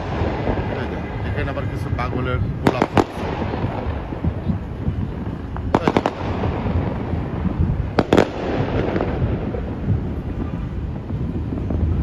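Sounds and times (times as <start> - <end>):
fireworks cracking bangs: 0.0 - 12.0
rumble of distant fireworks: 0.0 - 12.0.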